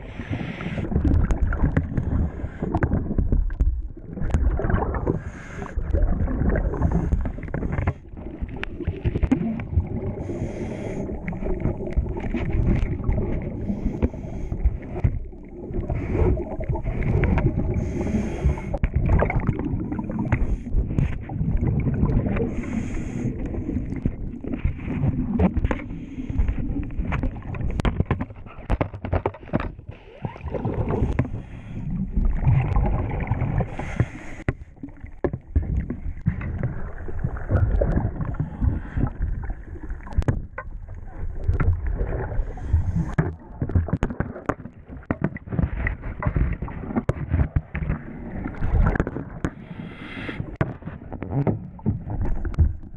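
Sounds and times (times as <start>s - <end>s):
churning water underwater: 0.0s - 52.9s.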